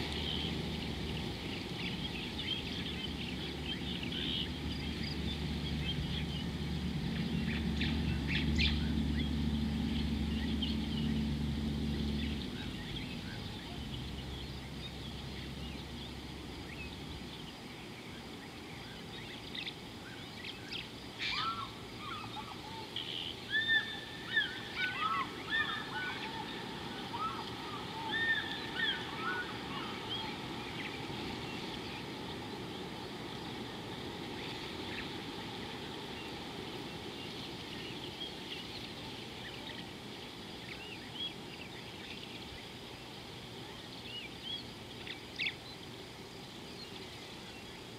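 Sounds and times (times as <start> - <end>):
birds calling: 0.0 - 47.9
low steady hum: 0.0 - 47.9
steady outdoor hiss: 0.0 - 47.9.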